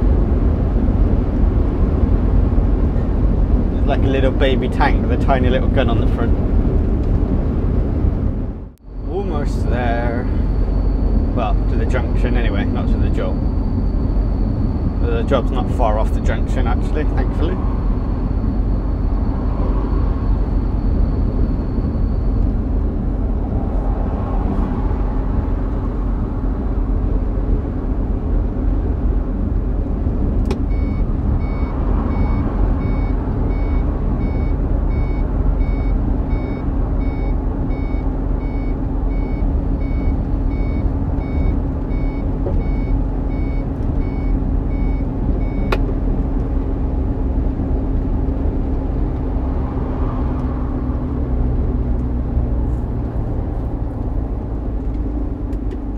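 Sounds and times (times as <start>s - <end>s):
lorry diesel engine droning: 0.0s - 55.9s
road noise: 0.0s - 55.9s.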